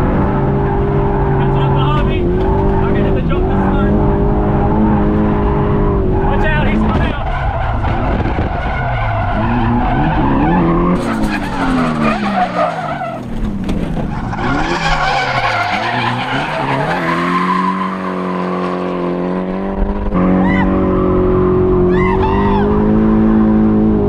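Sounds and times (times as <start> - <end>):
car engine revving: 0.0 - 24.0
tires skidding: 0.0 - 24.0.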